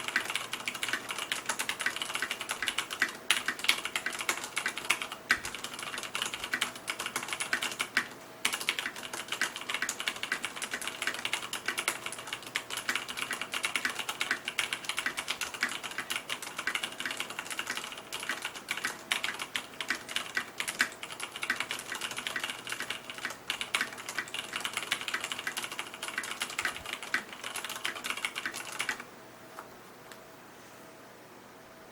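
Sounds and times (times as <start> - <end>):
typing on mechanical keyboard: 0.0 - 29.1.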